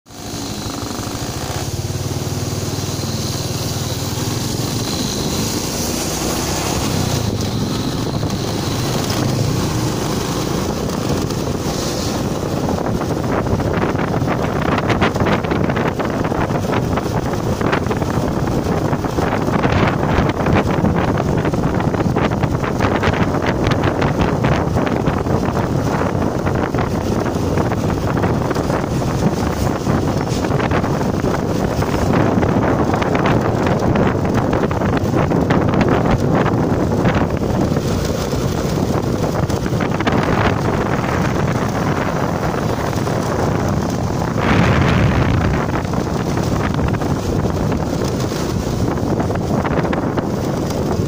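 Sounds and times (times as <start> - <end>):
vehicle running noise: 0.1 - 51.0
wind buffeting microphone: 0.1 - 51.0.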